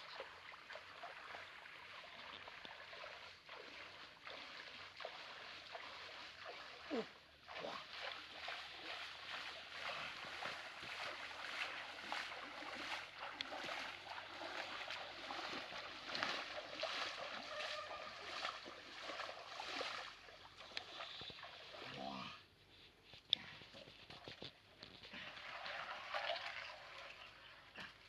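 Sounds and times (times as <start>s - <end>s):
water sloshing around a boat: 0.0s - 28.0s.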